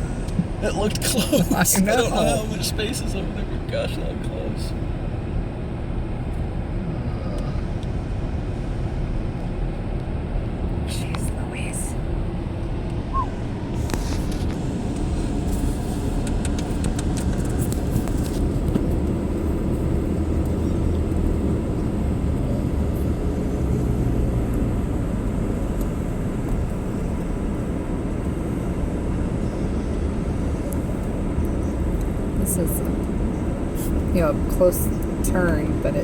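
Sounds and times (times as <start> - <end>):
car driving from inside cabin: 0.0 - 36.0.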